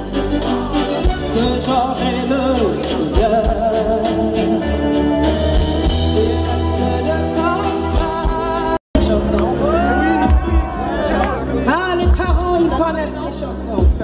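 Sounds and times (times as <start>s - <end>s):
live pop band playing: 0.0s - 14.0s.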